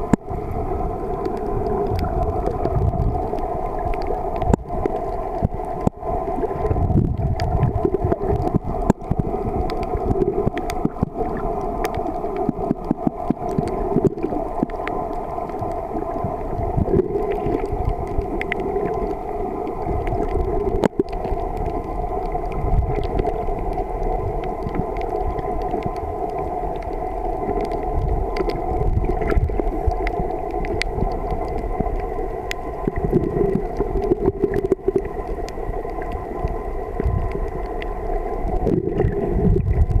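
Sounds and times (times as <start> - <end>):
low rumbles of moving water: 0.0 - 40.0
underwater droning hum: 0.0 - 40.0.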